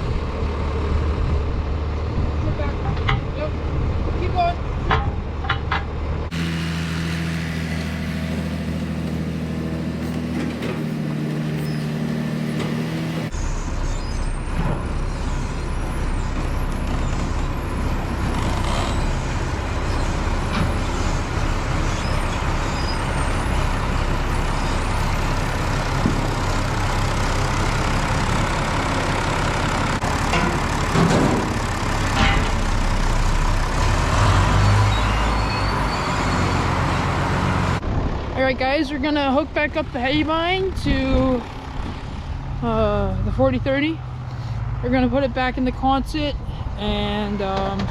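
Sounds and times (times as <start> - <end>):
tractor engine running: 0.0 - 34.6, 36.4 - 47.9.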